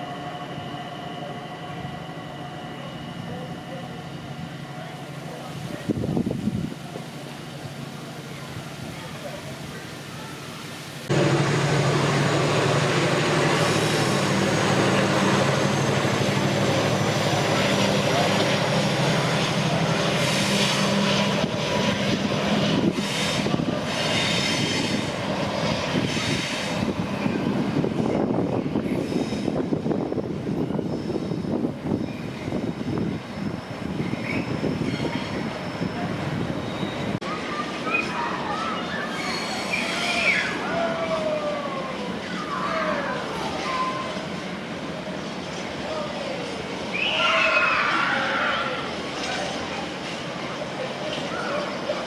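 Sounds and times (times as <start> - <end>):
train running past: 0.0 - 52.0.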